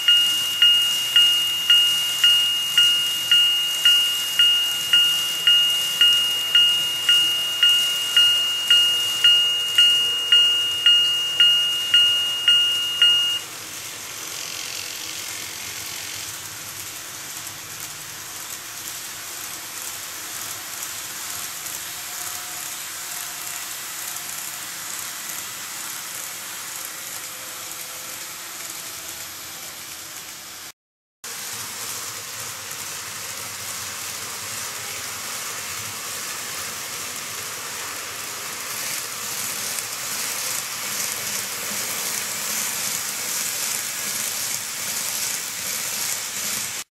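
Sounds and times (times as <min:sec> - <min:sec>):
model train whirring and rattling: 0:00.0 - 0:30.7, 0:31.3 - 0:46.8.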